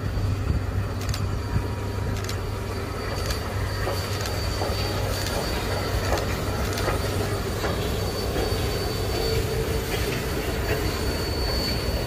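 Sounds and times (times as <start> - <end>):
low rumble of train wheels: 0.0 - 12.0
rail joint clicks: 0.0 - 12.0
wheel flanges squealing on rail: 0.0 - 12.0.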